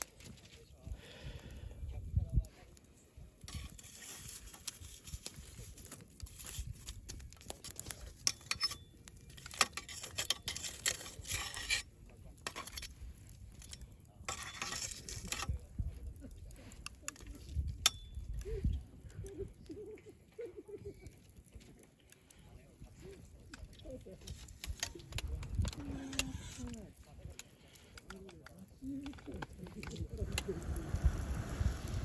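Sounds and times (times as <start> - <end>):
campfire crackling and popping: 0.0 - 32.0
fire hissing: 0.0 - 32.0.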